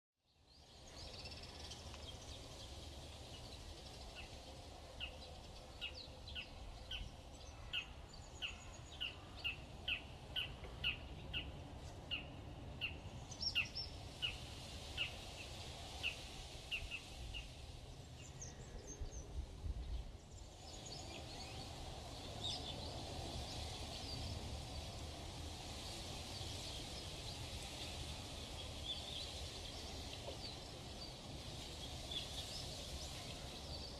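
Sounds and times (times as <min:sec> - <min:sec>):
steady hiss: 0:00.5 - 0:33.9.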